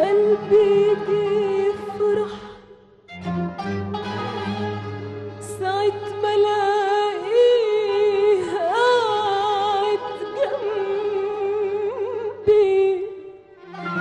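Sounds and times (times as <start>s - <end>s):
woman singing ornamented melody: 0.0s - 2.8s, 5.4s - 14.0s.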